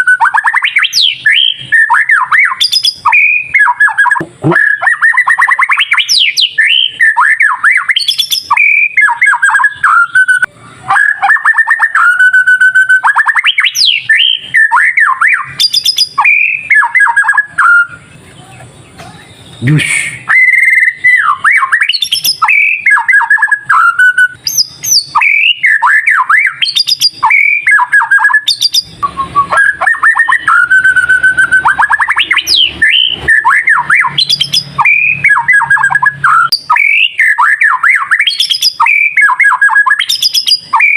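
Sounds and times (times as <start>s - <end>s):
songbird singing whistles and trills: 0.0s - 40.9s.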